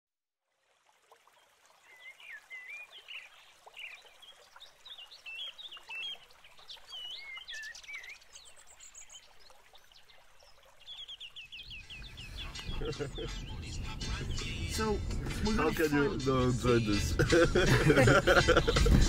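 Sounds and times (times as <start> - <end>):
songbirds chirping: 1.2 - 19.0.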